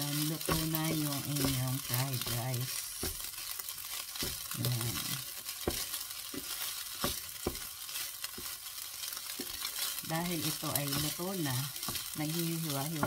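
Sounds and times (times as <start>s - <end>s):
rice sizzling in frying pan: 0.0s - 13.0s
spatula knocking and scraping pan: 0.0s - 13.0s.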